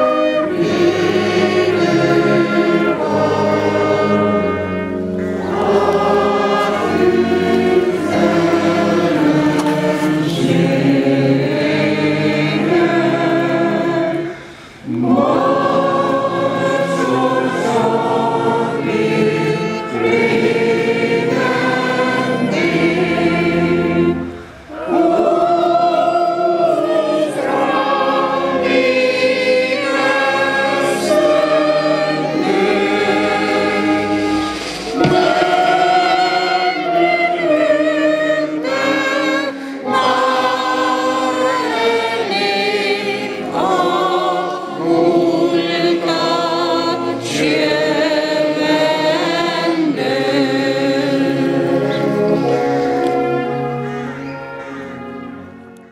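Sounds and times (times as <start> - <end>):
group singing slow song: 0.0 - 55.0.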